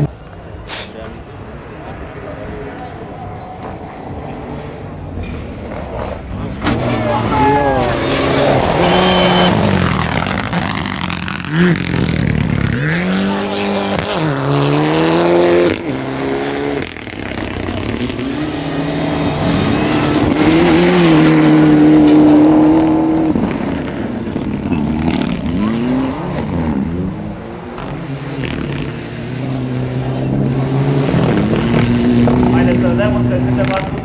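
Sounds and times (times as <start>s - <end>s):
rally car engine revving: 0.0s - 34.0s.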